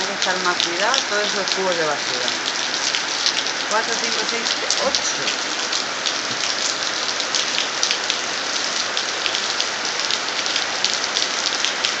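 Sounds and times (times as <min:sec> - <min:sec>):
raindrops striking nearby: 0:00.0 - 0:12.0
steady rain falling: 0:00.0 - 0:12.0.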